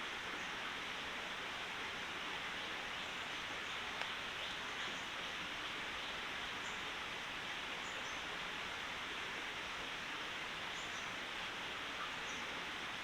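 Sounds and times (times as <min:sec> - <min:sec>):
forest stream rushing: 0:00.0 - 0:13.0.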